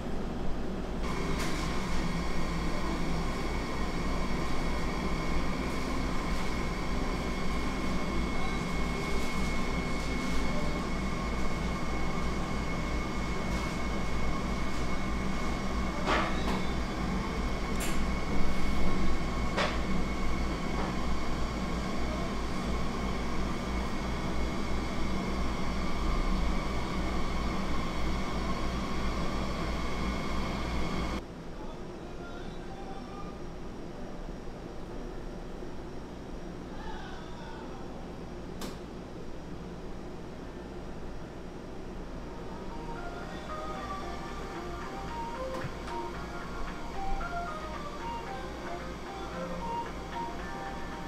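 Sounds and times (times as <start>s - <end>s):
machine humming with high whine: 0.0s - 31.3s, 37.4s - 51.0s.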